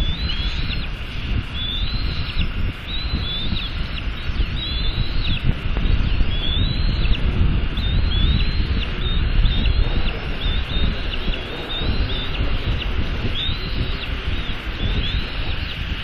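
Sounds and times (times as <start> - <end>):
eaglets chirping: 0.0 - 16.0
wind rumble on microphone: 0.0 - 16.0.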